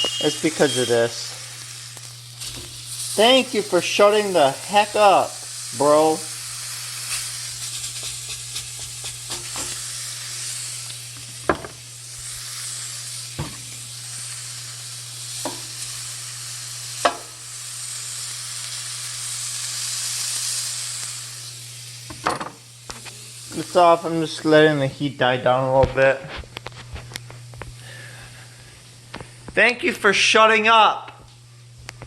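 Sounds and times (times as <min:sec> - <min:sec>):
skillet sizzling: 0:00.0 - 0:25.7.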